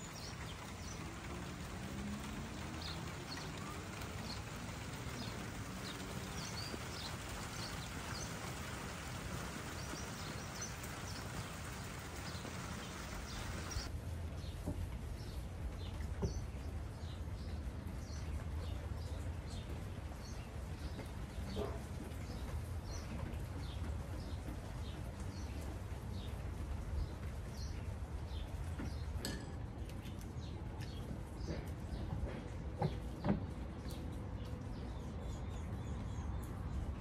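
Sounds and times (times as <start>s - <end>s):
small birds chirping: 0.0s - 14.6s, 15.2s - 37.0s
low outdoor rumble: 0.0s - 37.0s.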